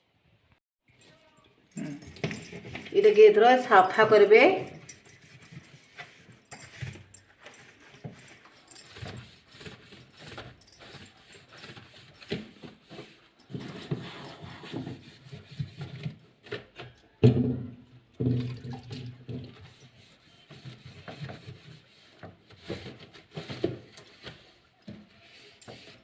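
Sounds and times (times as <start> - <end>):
wiping and scrubbing: 2.4 - 16.8, 19.2 - 26.0.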